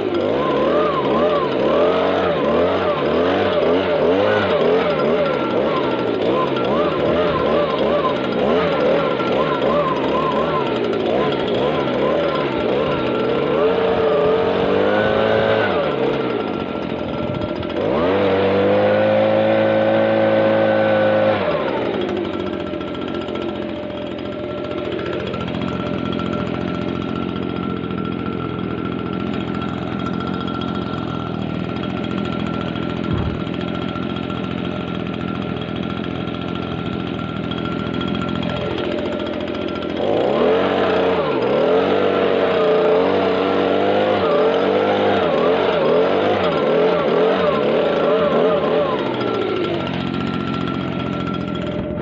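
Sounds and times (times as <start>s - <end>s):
leaf blower engine revving: 0.0s - 52.0s.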